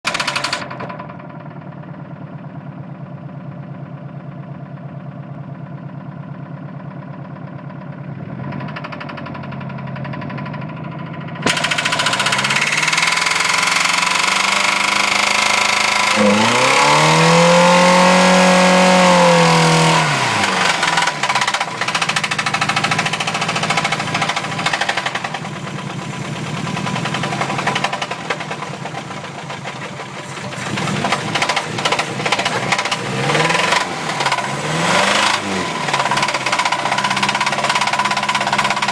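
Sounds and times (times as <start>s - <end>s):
engine knocking and revving: 0.0s - 38.9s.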